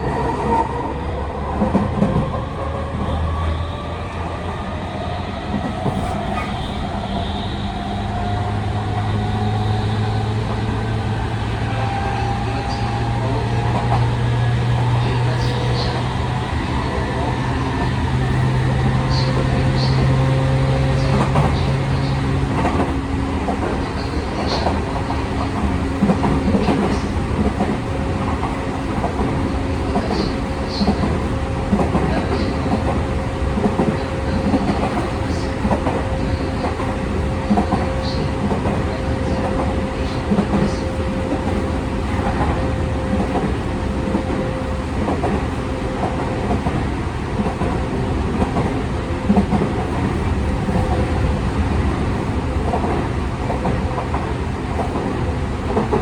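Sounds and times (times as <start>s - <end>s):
electric train rumbling: 0.0s - 56.0s.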